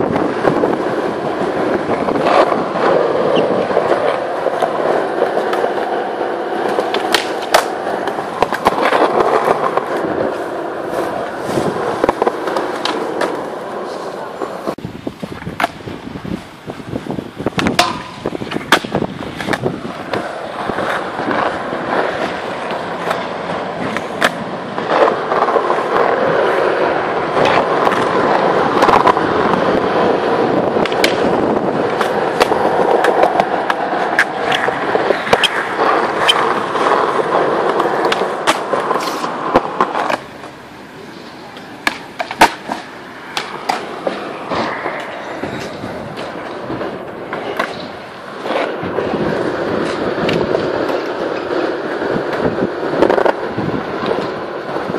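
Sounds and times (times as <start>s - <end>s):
skateboard popping and landing clacks: 0.0s - 15.9s, 17.4s - 54.9s
skateboard wheels rolling on concrete: 0.0s - 54.9s.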